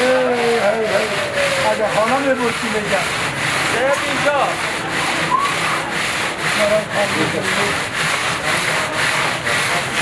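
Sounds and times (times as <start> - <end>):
rhythmic scraping and rubbing: 0.0 - 10.0.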